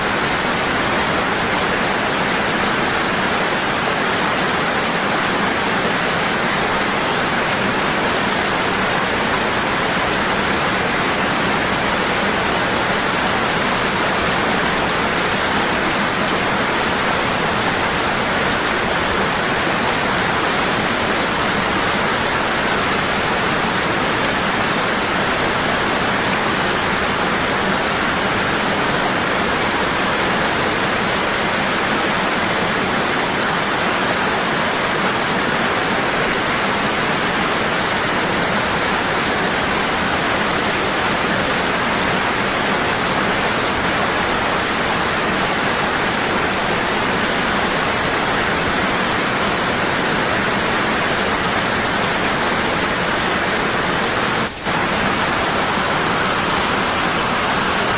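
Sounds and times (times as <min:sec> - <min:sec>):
waterfall rushing into pool: 0:00.0 - 0:57.9.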